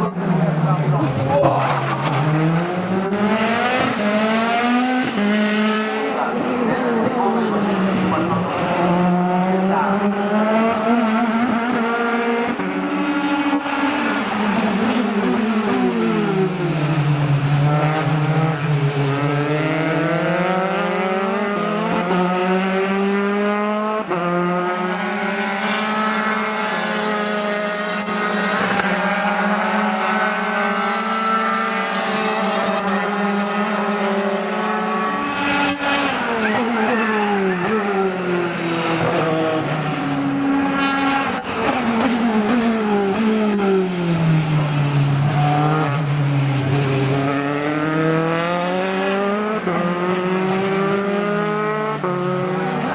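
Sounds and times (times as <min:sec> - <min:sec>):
race car engine: 0:00.0 - 0:52.9.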